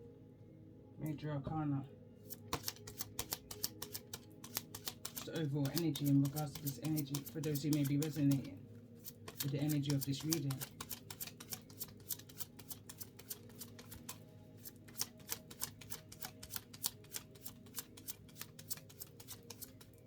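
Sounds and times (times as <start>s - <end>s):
cards being shuffled: 2.3s - 20.0s.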